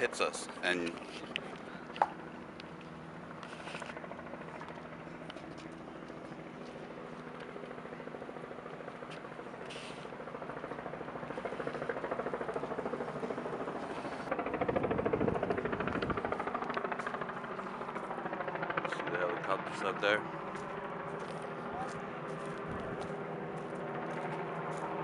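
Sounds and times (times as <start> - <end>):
helicopter rotor pulsing: 0.0 - 25.0.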